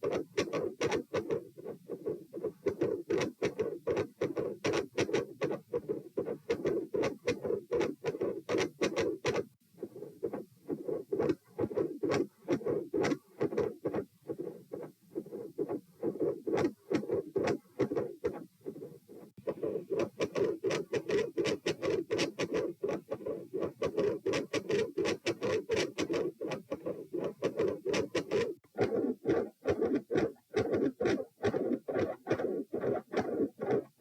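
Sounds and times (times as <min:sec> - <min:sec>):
heartbeat through stethoscope: 0:00.0 - 0:34.0.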